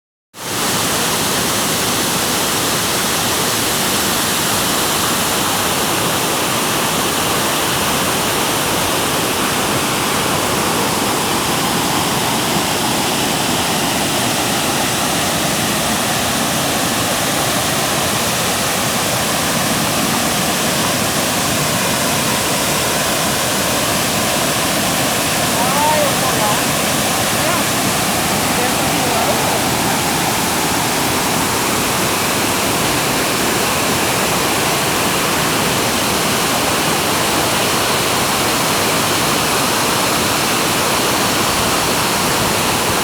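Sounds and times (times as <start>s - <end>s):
rush of falling water: 0.4s - 43.0s.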